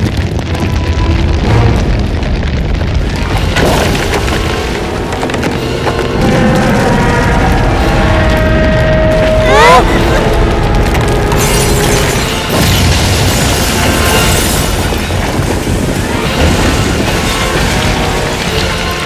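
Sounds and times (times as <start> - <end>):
rumbling crash of falling debris: 0.0 - 19.0
background music: 0.3 - 19.0.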